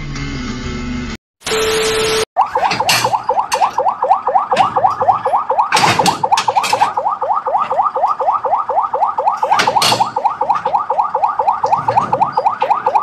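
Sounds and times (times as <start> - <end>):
electronic siren sweeping: 1.5 - 13.0.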